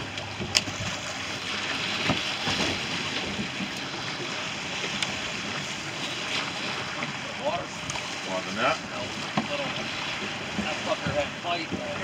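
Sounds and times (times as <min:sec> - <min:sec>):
choppy water around boat: 0:00.0 - 0:12.0
wind: 0:00.0 - 0:12.0.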